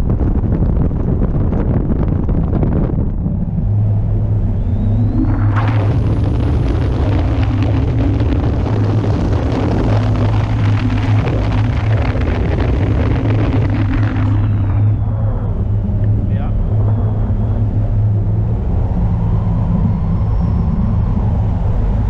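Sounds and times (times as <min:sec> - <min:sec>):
engine drone: 0:00.0 - 0:22.0
wind rushing over microphone: 0:00.0 - 0:22.0.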